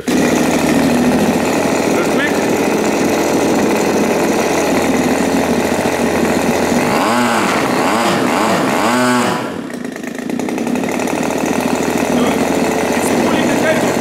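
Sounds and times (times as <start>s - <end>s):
gas engine running and revving: 0.0s - 14.0s.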